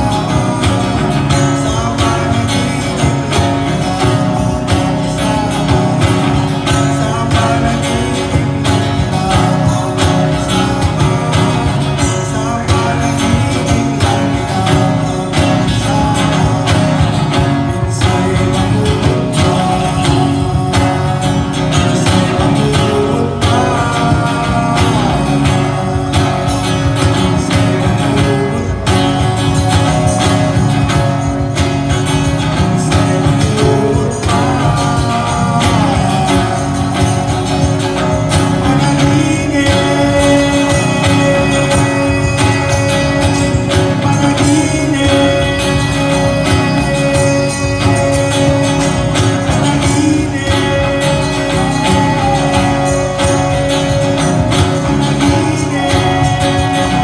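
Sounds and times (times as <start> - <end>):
acoustic guitar: 0.0 - 57.0
live band music: 0.0 - 57.0.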